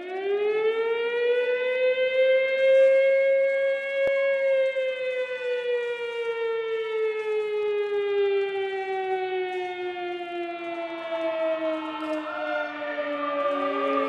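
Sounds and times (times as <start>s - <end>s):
air-raid siren wailing: 0.0s - 14.0s.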